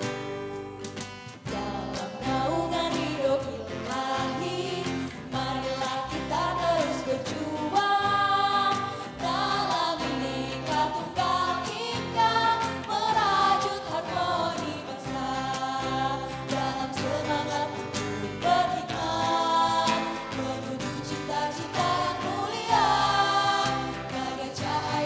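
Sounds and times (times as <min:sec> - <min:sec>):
march song sung by voices: 0:00.0 - 0:25.0.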